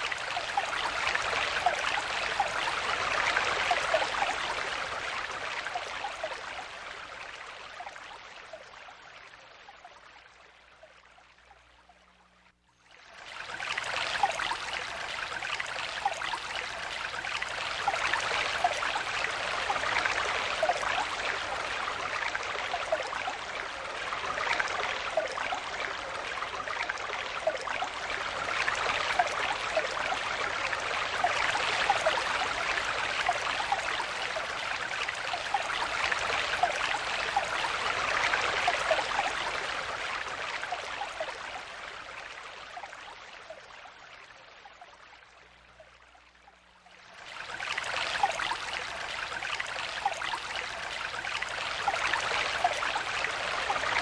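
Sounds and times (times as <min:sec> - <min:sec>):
stream water splashing over stones: 0:00.0 - 0:09.1, 0:13.0 - 0:44.0, 0:47.0 - 0:54.0.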